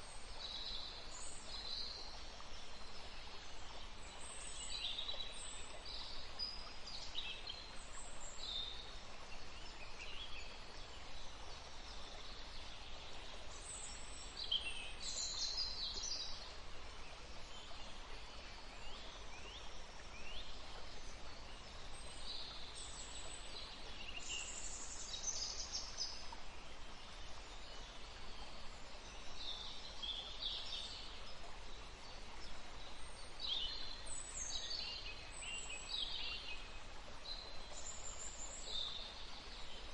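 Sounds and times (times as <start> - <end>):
songbirds chirping: 0.0 - 39.9
stream running: 0.0 - 39.9.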